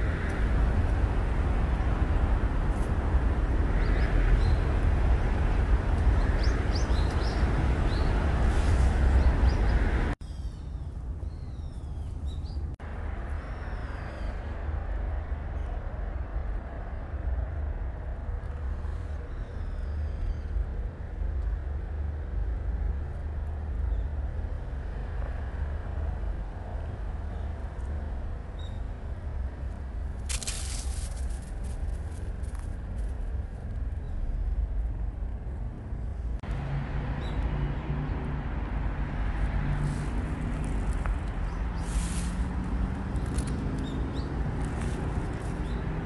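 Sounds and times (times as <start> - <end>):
distant city traffic rumble: 0.0 - 46.0.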